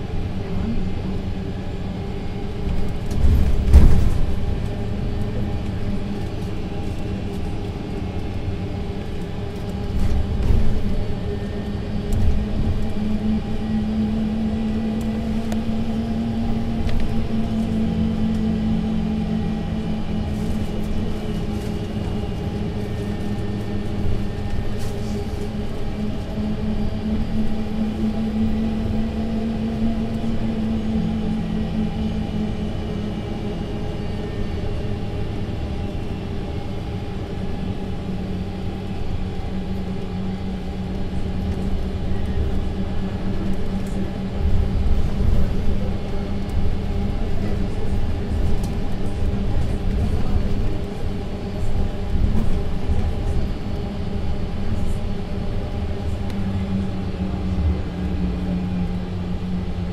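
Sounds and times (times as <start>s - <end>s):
bus engine droning: 0.0s - 59.9s.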